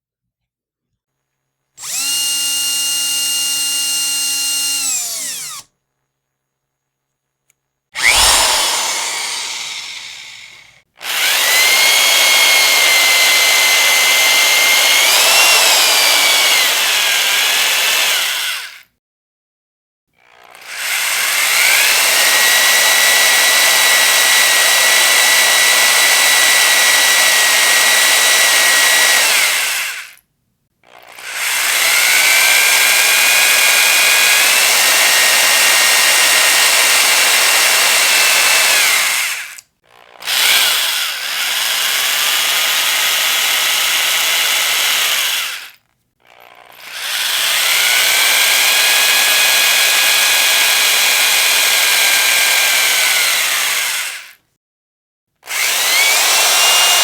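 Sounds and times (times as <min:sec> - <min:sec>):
electric power drill whining: 0:01.8 - 0:05.7, 0:08.0 - 0:18.8, 0:20.2 - 0:30.2, 0:30.9 - 0:54.4, 0:55.4 - 0:57.0.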